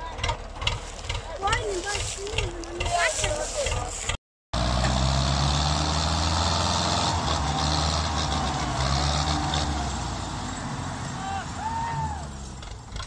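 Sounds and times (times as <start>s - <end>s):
tractor engines under load: 0.0s - 13.0s.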